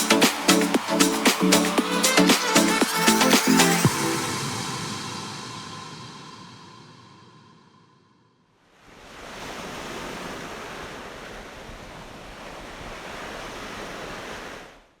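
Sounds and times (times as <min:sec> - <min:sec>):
ocean waves breaking: 0:00.0 - 0:07.7, 0:08.9 - 0:14.7.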